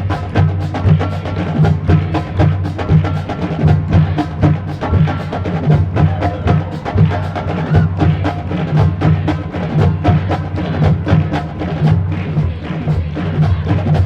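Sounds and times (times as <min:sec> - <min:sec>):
drum and stick strokes: 0:00.0 - 0:14.0
marching band music: 0:00.0 - 0:14.0.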